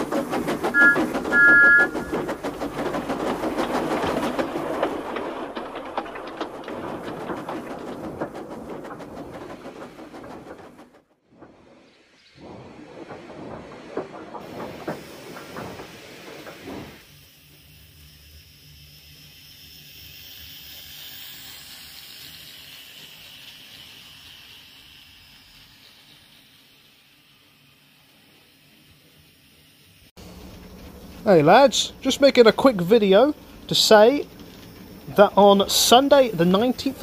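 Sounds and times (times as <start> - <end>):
model train motor whirring: 0.0 - 10.9, 14.5 - 37.0
wheels clicking over rail joints: 0.0 - 37.0.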